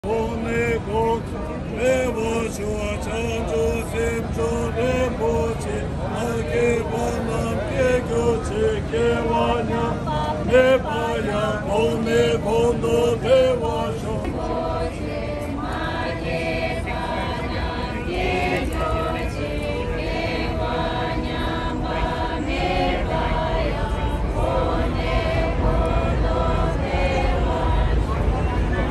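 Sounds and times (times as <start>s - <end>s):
group chanting a prayer: 0.0s - 28.9s.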